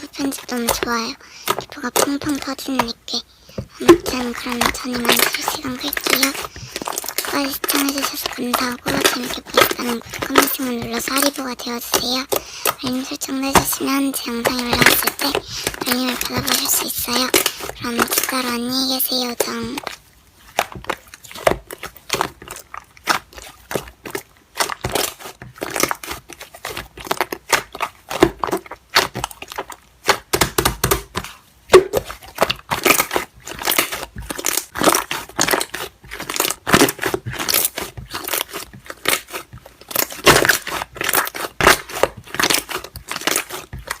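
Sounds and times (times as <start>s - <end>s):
slime squeezed crackling and popping: 0.0s - 44.0s.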